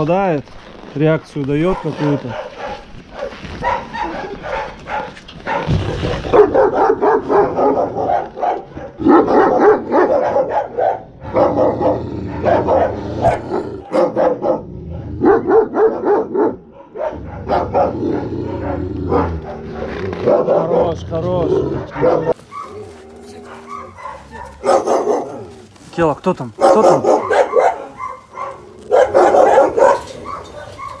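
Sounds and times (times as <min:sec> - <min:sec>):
dogs barking and growling: 0:01.6 - 0:25.8, 0:26.5 - 0:31.0.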